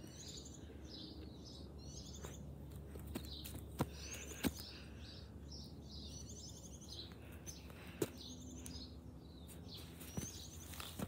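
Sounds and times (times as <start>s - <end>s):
small birds trilling: 0.0s - 11.0s.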